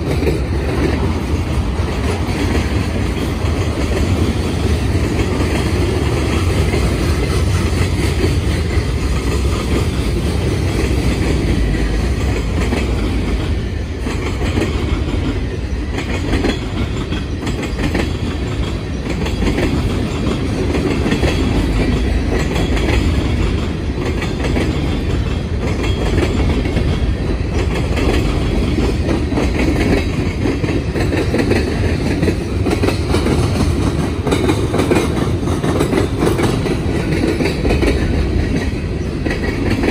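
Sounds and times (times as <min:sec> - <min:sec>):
freight train wheels rumbling: 0:00.0 - 0:39.9
wheels clacking over rail joints: 0:00.0 - 0:39.9.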